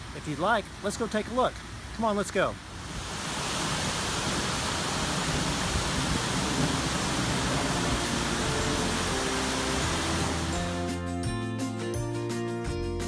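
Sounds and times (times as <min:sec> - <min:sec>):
water pouring over waterfalls: 0:00.0 - 0:11.0.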